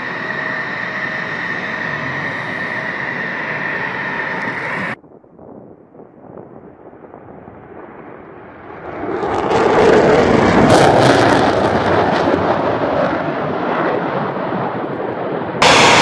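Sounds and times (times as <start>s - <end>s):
jet taking off: 0.0s - 5.1s, 6.0s - 16.0s.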